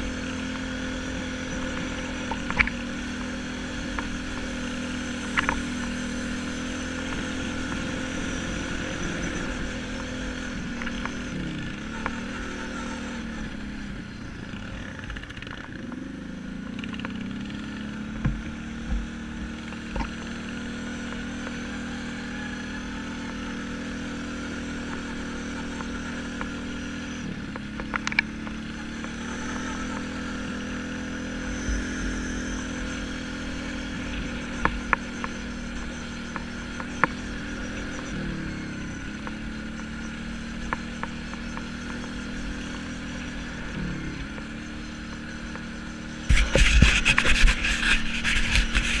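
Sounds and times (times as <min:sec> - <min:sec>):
rough rattling and buffeting: 0:00.0 - 0:21.5, 0:23.2 - 0:49.0
quad bike engine running: 0:00.0 - 0:49.0.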